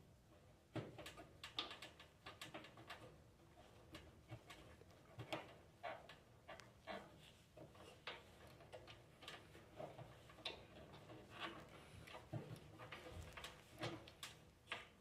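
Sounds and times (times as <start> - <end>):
faint clicks and taps of parts: 0.3 - 15.0.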